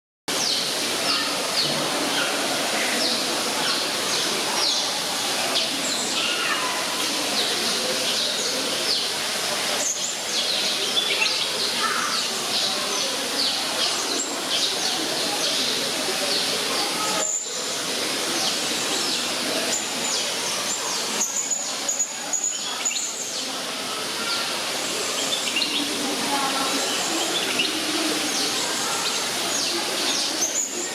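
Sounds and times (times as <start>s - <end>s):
waterfall rushing: 0.3s - 30.9s
small birds chirping: 0.4s - 30.9s.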